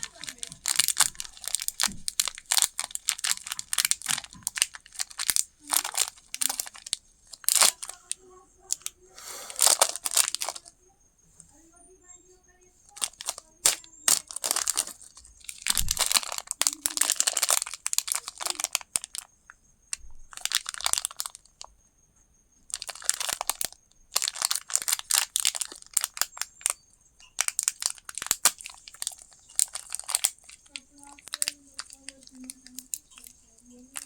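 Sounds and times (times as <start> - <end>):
candy wrappers crinkling: 0.0 - 10.7, 12.9 - 21.7, 22.7 - 34.0.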